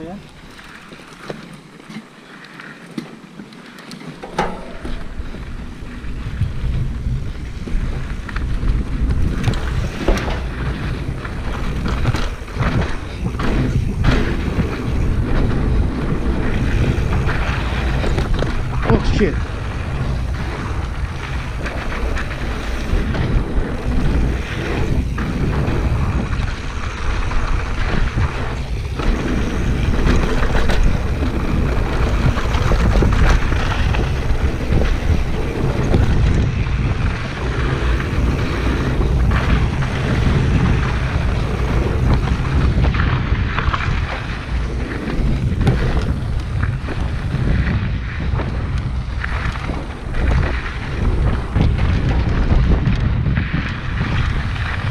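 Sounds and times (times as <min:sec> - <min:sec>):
knobby tyres on dirt trail: 0:00.0 - 0:54.9
wind buffeting microphone: 0:04.2 - 0:54.9.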